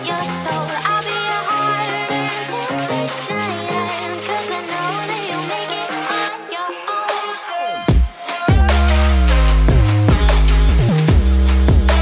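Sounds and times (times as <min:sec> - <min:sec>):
dubstep music with synth melody: 0:00.0 - 0:12.0.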